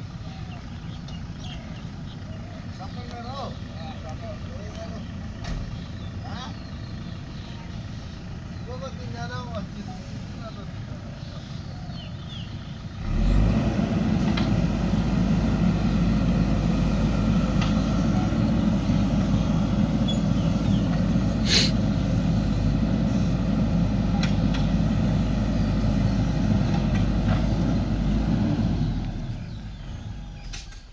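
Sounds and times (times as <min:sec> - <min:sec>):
diesel engine revving: 0:00.0 - 0:30.9.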